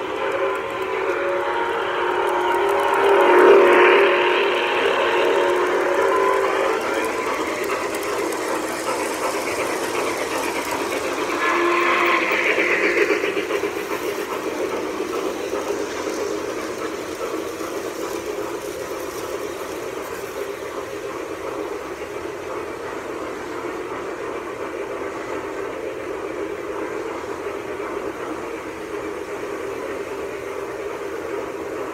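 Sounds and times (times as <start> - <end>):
model train rolling rattle: 0.0 - 31.9.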